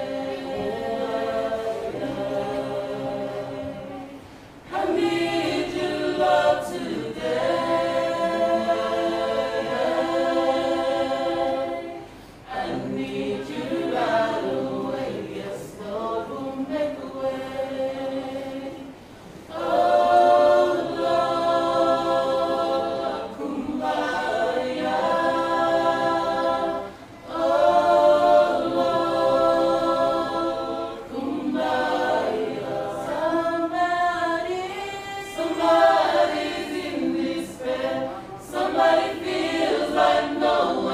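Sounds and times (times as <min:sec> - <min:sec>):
choir singing unaccompanied: 0:00.0 - 0:40.9.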